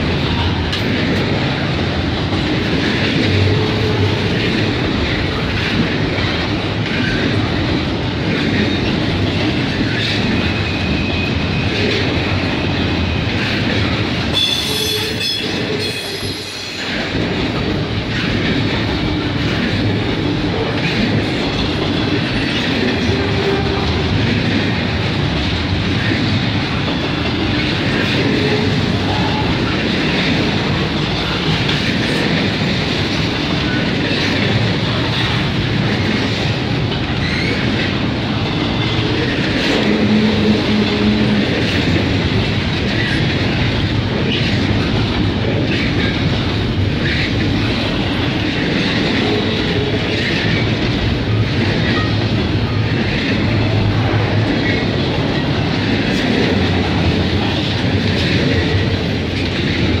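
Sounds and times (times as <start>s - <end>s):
freight train rumbling: 0.0s - 60.0s.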